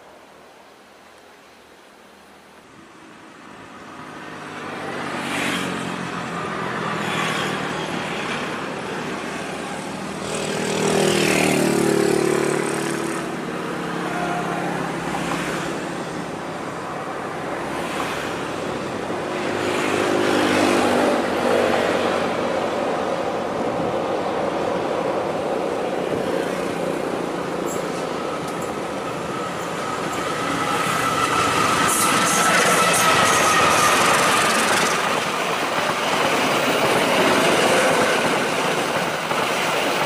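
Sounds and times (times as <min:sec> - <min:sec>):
wheels rumbling on rail: 0:06.2 - 0:40.0.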